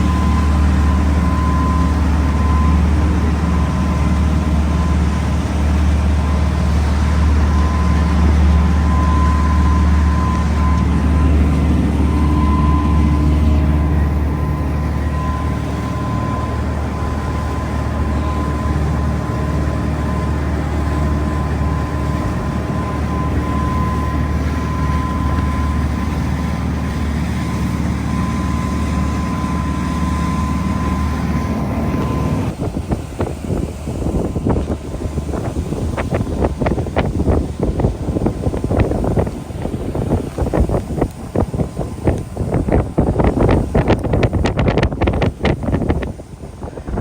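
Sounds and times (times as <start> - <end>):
boat engine droning: 0.0 - 47.0
gusty wind on microphone: 0.0 - 47.0
thin steady whine: 0.0 - 47.0.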